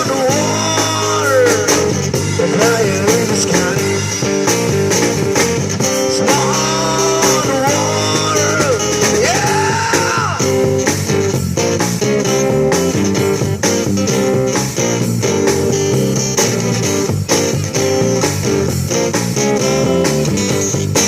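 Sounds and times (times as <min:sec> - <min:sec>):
bass: 0:00.0 - 0:21.0
steady drum beat: 0:00.0 - 0:21.0
strummed guitar: 0:00.0 - 0:21.0.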